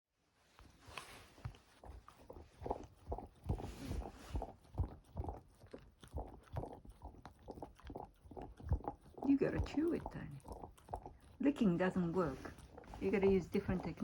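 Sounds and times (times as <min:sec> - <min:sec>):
dog licking rubber toy: 0:00.6 - 0:14.0.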